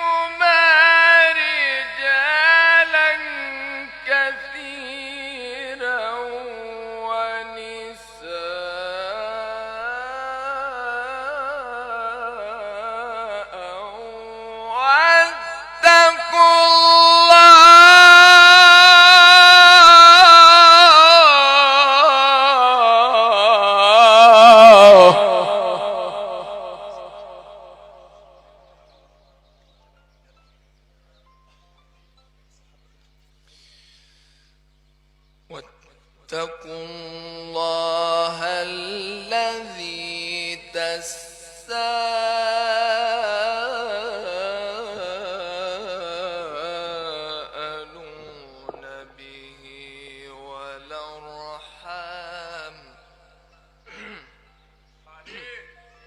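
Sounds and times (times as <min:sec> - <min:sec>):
man chanting a long sung vowel: 0:00.0 - 0:29.3, 0:35.5 - 0:53.3, 0:55.0 - 0:55.8
man reciting melodically: 0:00.0 - 0:29.6, 0:33.6 - 0:56.0.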